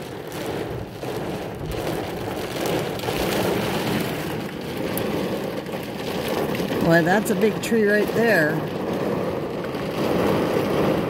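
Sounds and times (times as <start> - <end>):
heavy rain on truck roof: 0.0 - 11.0.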